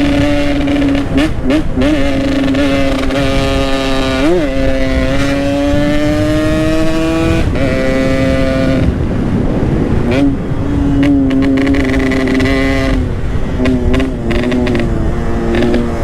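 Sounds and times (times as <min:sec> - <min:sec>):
low wind rumble: 0:00.0 - 0:16.0
two-stroke motorcycle engine revving: 0:00.0 - 0:16.0.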